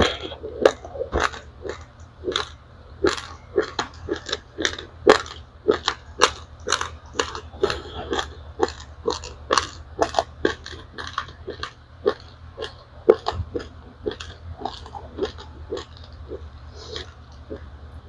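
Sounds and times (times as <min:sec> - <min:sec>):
chewing crisp rice grains: 0:00.0 - 0:18.0.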